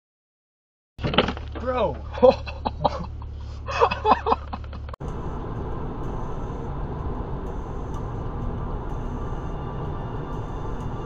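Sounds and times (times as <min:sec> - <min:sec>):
car road and tyre noise: 0:01.0 - 0:11.0.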